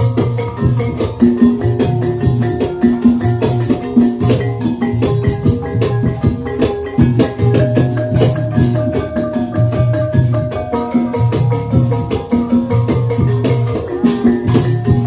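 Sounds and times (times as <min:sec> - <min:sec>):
quick sharp percussion strokes: 0:00.0 - 0:15.0.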